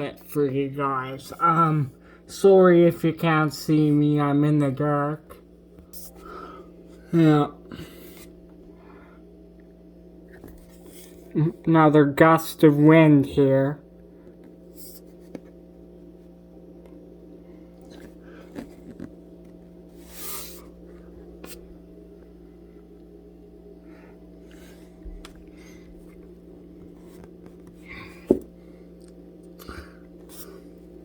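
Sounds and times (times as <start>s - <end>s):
low indoor hum: 0.0s - 31.0s.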